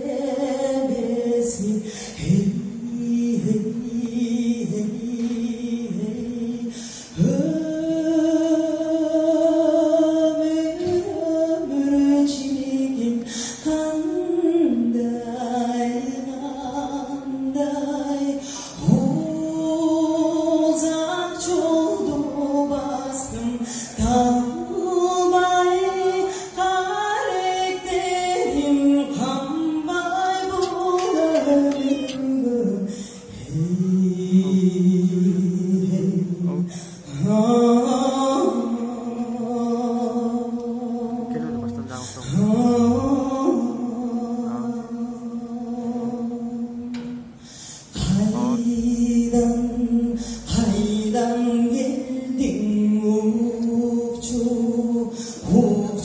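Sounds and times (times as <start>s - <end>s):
person singing a slow melody: 0.0s - 56.0s.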